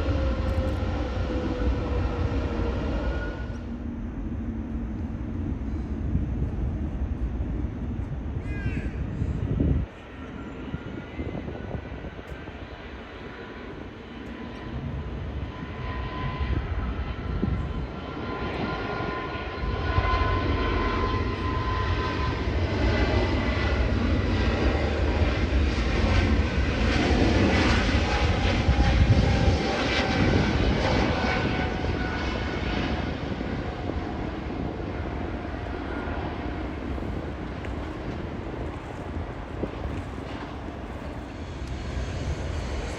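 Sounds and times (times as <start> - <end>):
jet airliner passing by: 0.0 - 42.9.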